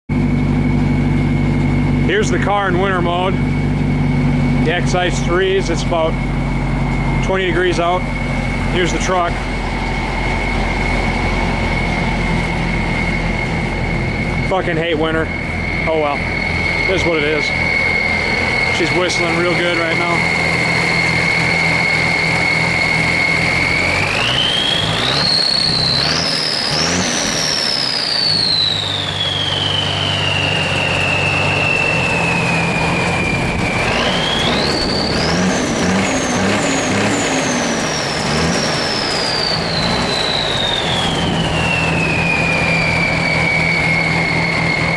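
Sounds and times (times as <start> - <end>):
diesel truck engine idling and revving: 0.0 - 44.9
turbo whistle: 0.1 - 44.9.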